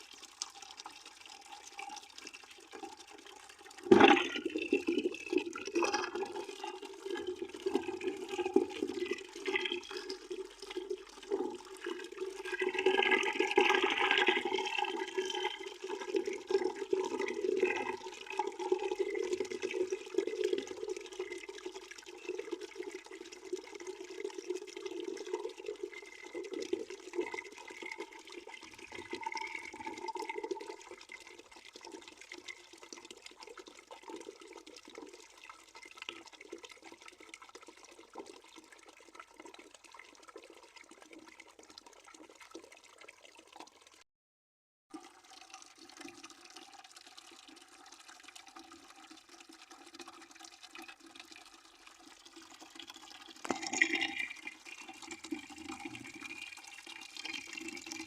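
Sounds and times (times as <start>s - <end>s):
water running into bucket: 0.0s - 44.0s, 44.9s - 58.0s.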